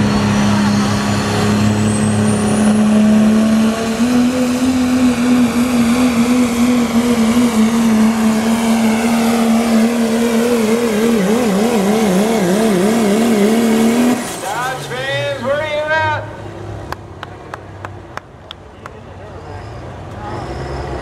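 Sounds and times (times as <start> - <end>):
diesel truck engine at full throttle: 0.0 - 21.0.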